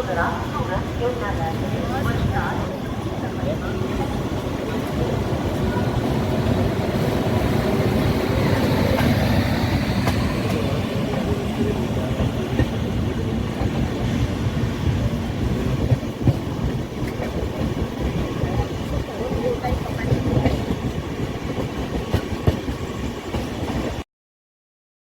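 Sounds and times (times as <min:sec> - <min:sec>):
passing train rumble: 0:00.0 - 0:24.0.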